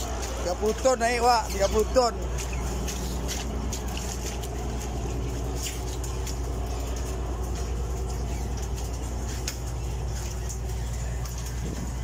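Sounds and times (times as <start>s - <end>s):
low machinery drone: 0.0s - 12.0s.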